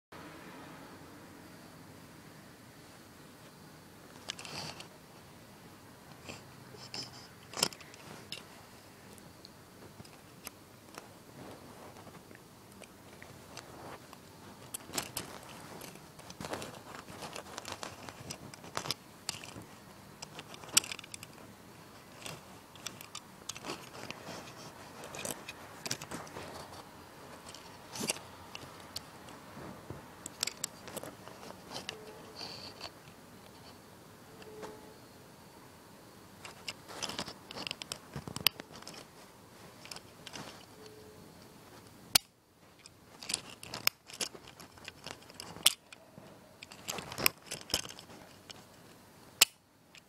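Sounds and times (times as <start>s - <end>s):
toy handling clicks and scrapes: 4.1s - 5.3s, 6.1s - 9.2s, 9.9s - 33.8s, 36.4s - 46.0s, 46.6s - 50.0s.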